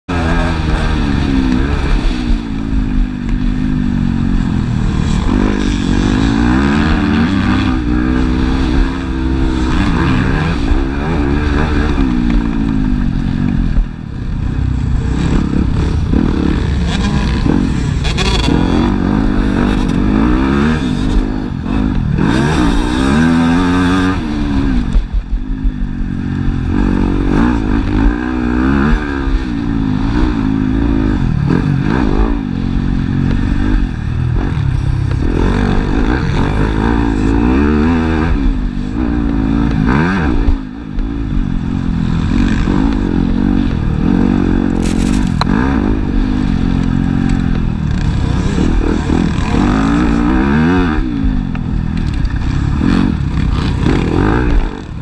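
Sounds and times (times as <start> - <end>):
dirt bike engine revving: 0.1 - 55.0.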